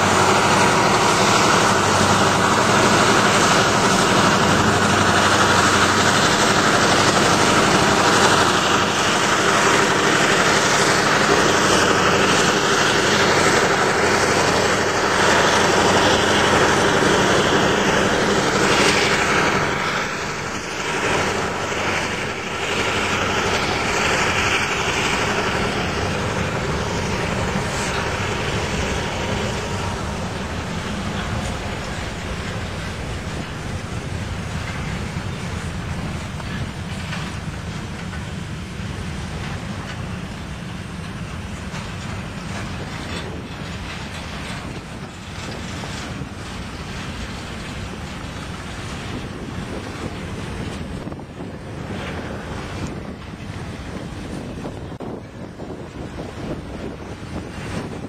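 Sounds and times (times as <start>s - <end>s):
diesel locomotive engines droning: 0.0s - 58.0s
train cars rolling past: 0.0s - 58.0s.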